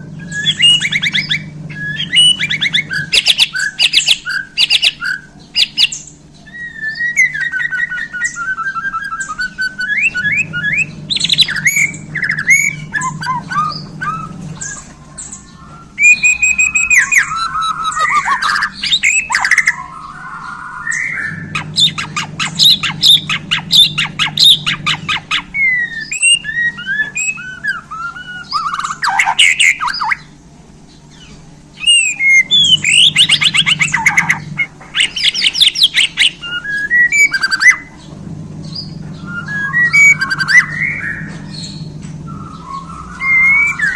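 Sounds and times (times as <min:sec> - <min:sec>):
bird singing varied song: 0:00.0 - 0:43.9.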